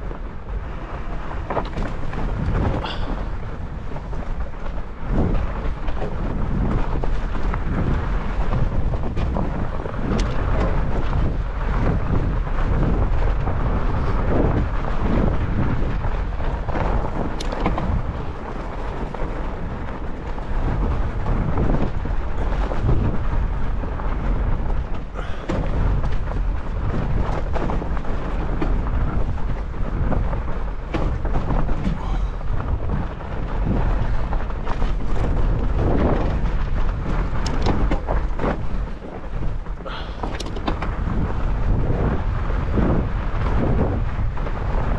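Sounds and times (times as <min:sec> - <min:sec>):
bike tyres rumbling on snow: 0:00.0 - 0:44.9
wind buffeting microphone: 0:00.0 - 0:44.9.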